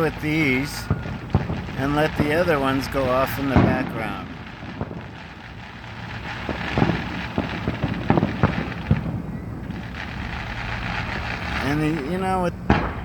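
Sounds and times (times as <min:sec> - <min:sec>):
fireworks bangs and pops: 0:00.0 - 0:13.0
steady background noise: 0:00.0 - 0:13.0.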